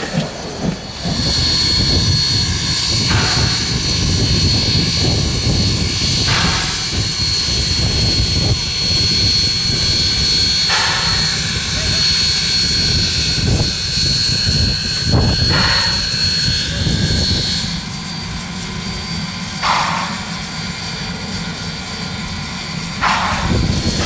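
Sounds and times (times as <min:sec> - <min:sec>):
steam locomotive hissing: 0:00.0 - 0:24.0
steam rushing: 0:00.0 - 0:24.0.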